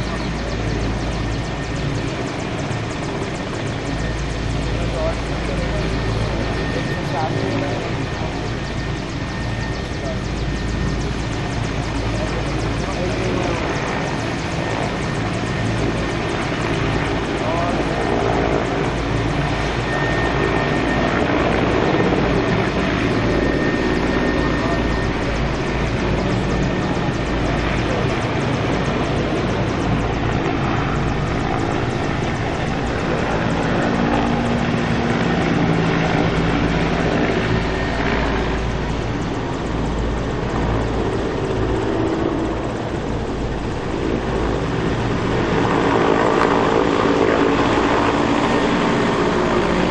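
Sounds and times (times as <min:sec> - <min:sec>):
helicopter rotor and engine: 0:00.0 - 0:49.9.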